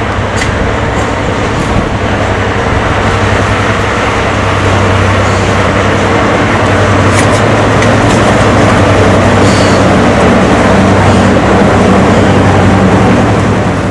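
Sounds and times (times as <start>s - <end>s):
locomotive diesel engines running: 0.0s - 13.9s.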